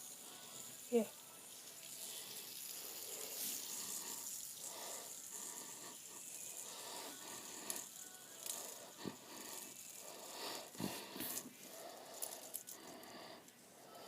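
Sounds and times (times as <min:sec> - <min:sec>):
fidget spinner whirring: 0:00.0 - 0:14.0.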